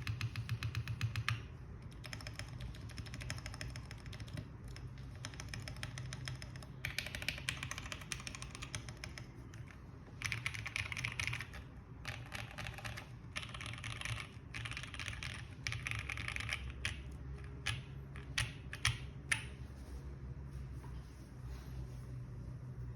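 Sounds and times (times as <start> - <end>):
mechanical keyboard typing: 0.0 - 19.5.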